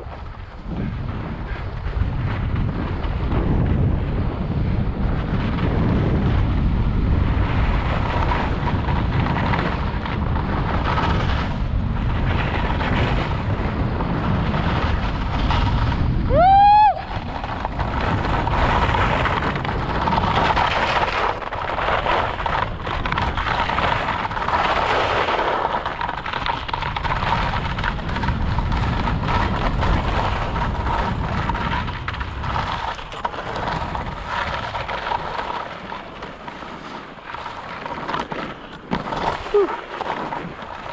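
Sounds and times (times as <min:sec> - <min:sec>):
skis scraping on snow: 0:00.0 - 0:16.3, 0:17.0 - 0:40.9
wind buffeting microphone: 0:00.0 - 0:40.9.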